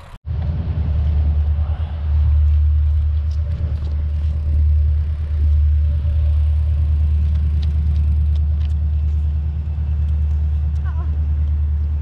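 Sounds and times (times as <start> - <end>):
tyre noise on asphalt: 0.0 - 12.0
wind rumble on microphone: 0.2 - 12.0.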